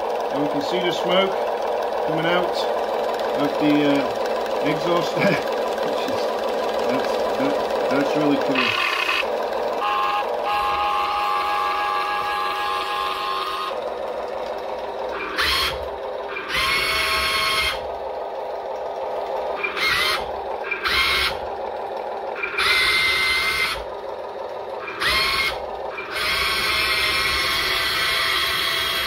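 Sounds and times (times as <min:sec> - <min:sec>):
electric motors whining: 0:00.0 - 0:29.0
simulated diesel engine sound: 0:00.0 - 0:29.0.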